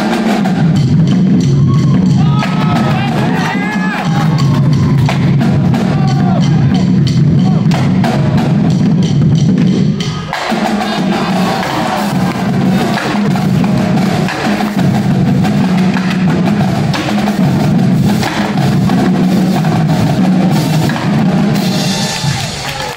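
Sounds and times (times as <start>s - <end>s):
bass drums: 0.0s - 22.9s
cymbals: 0.0s - 22.9s
snare drums: 0.0s - 22.9s
tenor drums: 0.0s - 22.9s.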